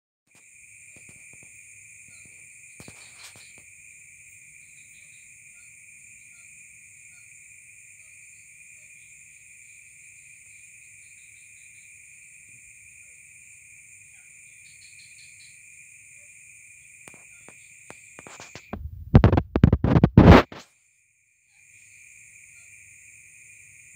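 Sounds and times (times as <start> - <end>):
crickets chorus: 0.3 - 18.8, 19.8 - 23.9.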